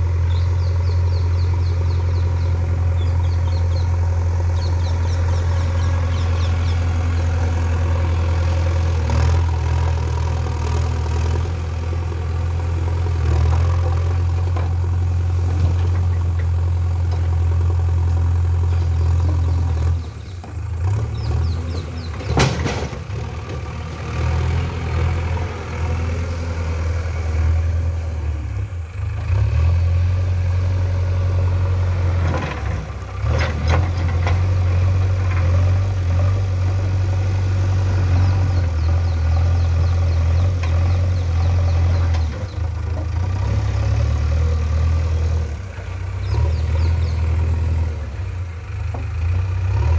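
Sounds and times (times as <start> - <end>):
diesel engine under load: 0.0 - 49.9.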